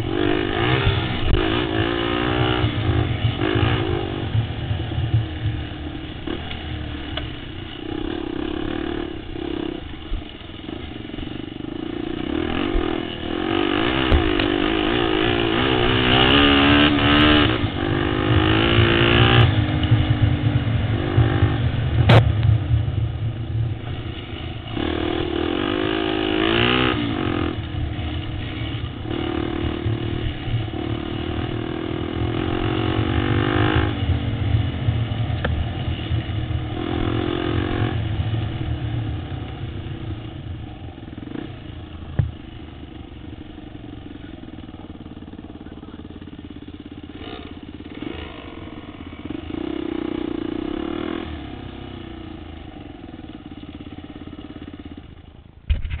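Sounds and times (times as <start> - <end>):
dirt bike engine revving: 0.0 - 22.3, 23.8 - 55.2.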